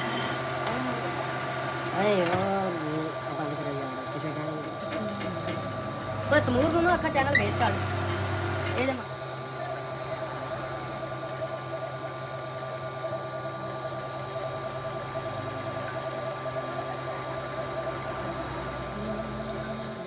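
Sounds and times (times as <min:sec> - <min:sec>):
lathe humming with even pulsing: 0:00.0 - 0:20.0.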